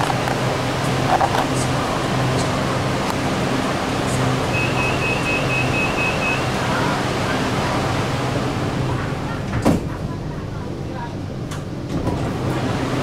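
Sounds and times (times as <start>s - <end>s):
train hum and rumble: 0.0s - 13.0s.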